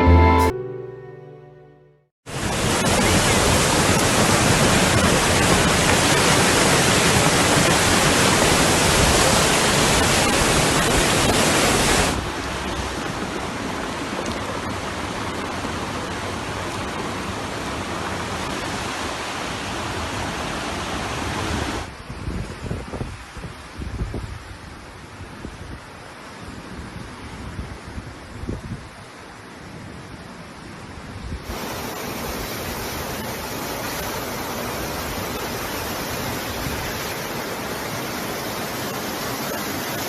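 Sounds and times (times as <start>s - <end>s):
rushing water: 2.3s - 40.0s.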